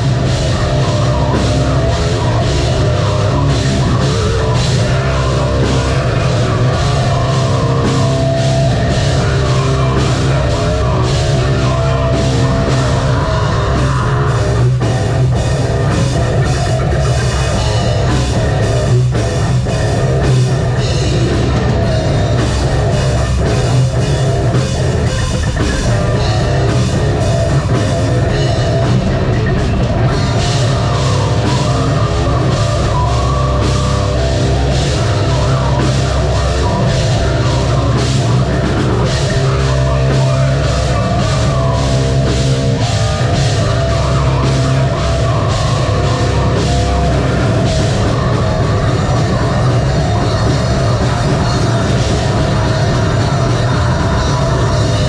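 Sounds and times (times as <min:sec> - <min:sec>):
heavy distorted guitars: 0:00.0 - 0:55.0
pounding drum kit: 0:00.0 - 0:55.0.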